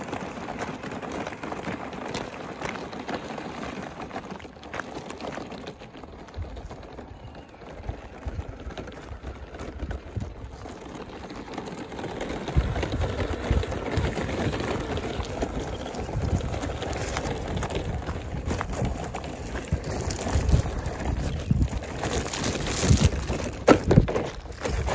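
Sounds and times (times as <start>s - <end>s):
small stones clattering: 0.0s - 24.9s
tyres crunching over gravel: 0.0s - 24.9s.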